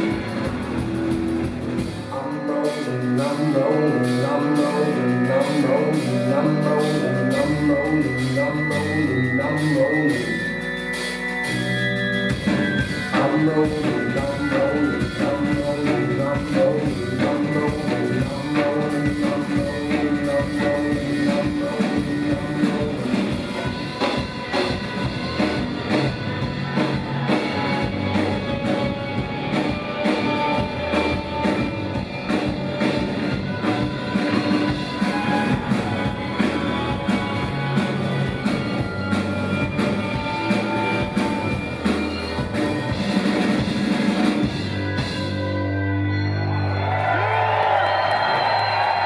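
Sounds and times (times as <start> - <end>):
drum kit steady beat: 0.0 - 45.4
guitar: 0.0 - 49.0
live rock band playing: 0.0 - 49.0.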